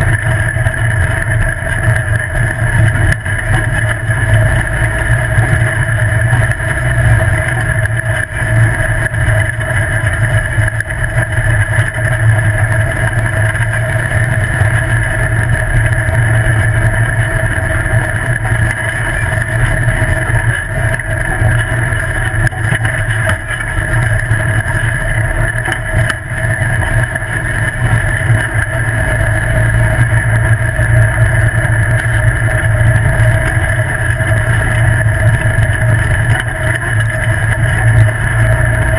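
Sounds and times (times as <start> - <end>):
buggy engine running: 0.0 - 38.9
rough road noise: 0.0 - 38.9.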